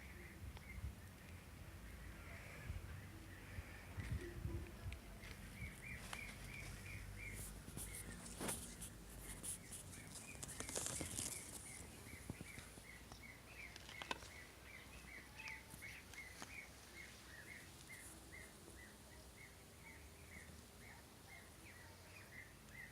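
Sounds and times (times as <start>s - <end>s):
small bird chirping: 2.0s - 22.9s.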